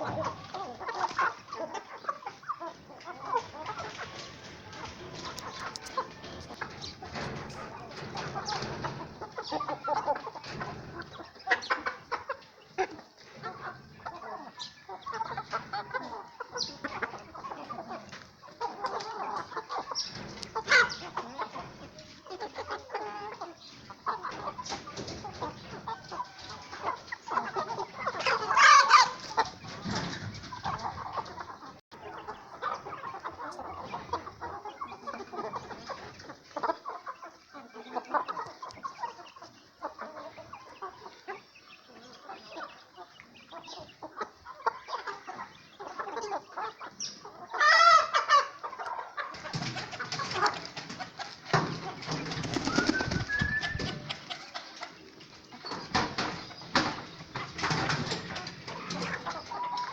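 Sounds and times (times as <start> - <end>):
hens clucking: 0.0 - 59.9.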